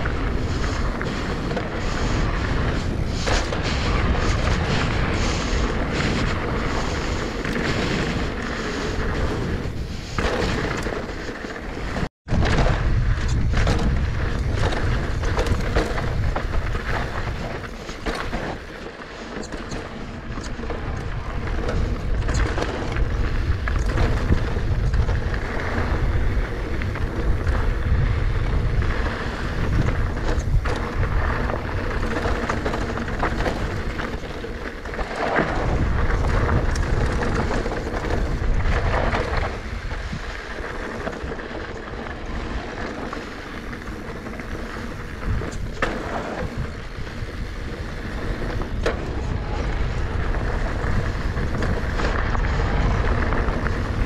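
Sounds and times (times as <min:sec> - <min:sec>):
bike rattling and knocking: 0:00.0 - 0:54.0
tyres rolling over dirt: 0:00.0 - 0:54.0
wind rumbling on microphone: 0:00.0 - 0:54.0.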